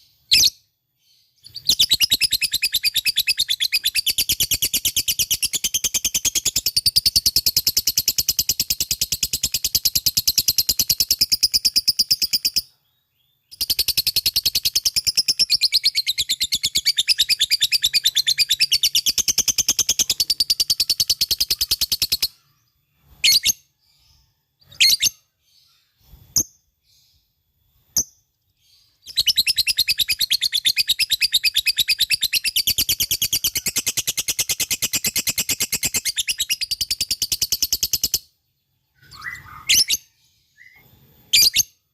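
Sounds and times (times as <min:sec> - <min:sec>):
lovebird fast high chirps: 0:01.4 - 0:12.7, 0:13.5 - 0:25.3, 0:27.8 - 0:38.3, 0:38.9 - 0:41.7.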